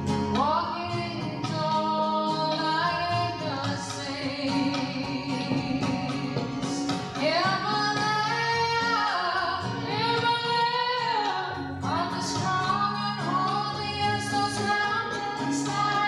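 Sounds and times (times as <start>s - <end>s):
sustained instrumental accompaniment: 0.0s - 16.0s
woman singing a hymn: 0.4s - 16.0s.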